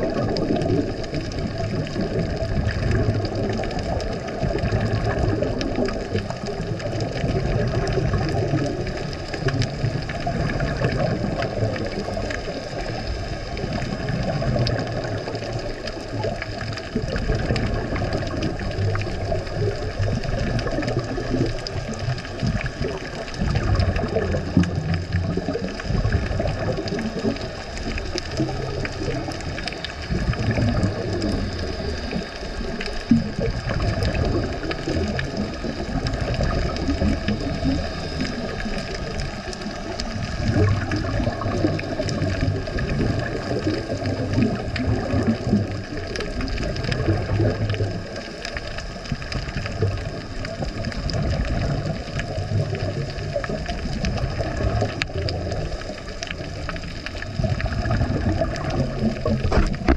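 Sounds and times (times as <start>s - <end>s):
muffled underwater rush: 0.0s - 59.9s
regulator bubbles: 0.0s - 59.9s.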